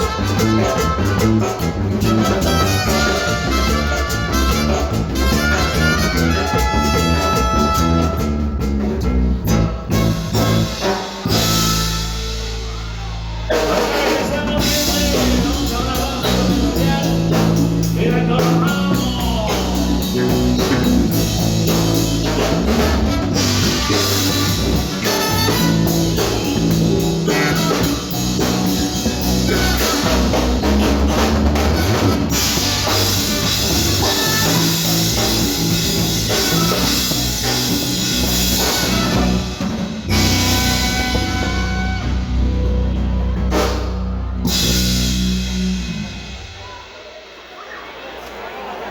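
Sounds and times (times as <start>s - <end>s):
bass line: 0.0s - 46.7s
drum kit: 0.0s - 48.9s
live band music: 0.0s - 48.9s.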